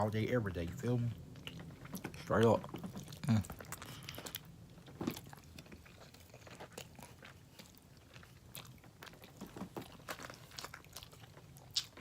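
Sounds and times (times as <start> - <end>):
person chewing food: 0.6 - 12.0.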